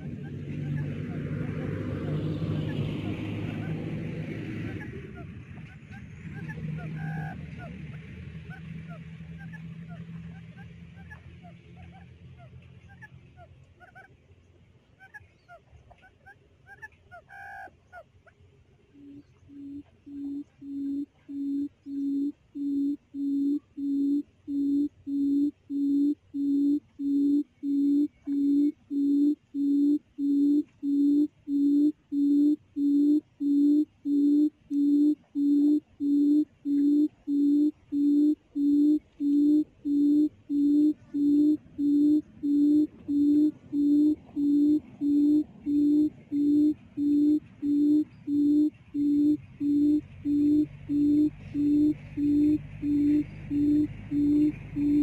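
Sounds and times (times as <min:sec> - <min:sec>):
recorded quail call from speaker: 0:00.0 - 0:14.1, 0:15.0 - 0:55.0.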